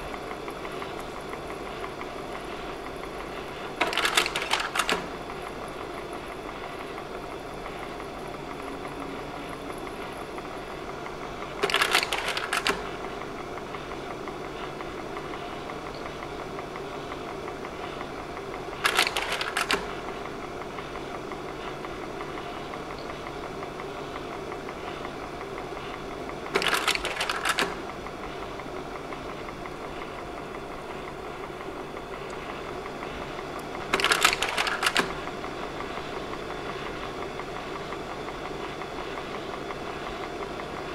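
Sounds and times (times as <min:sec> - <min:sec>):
projector fan humming: 0:00.0 - 0:40.9.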